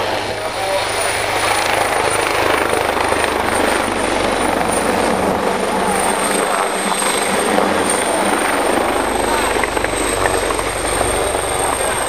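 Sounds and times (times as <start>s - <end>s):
helicopter flying low: 0.0s - 12.0s.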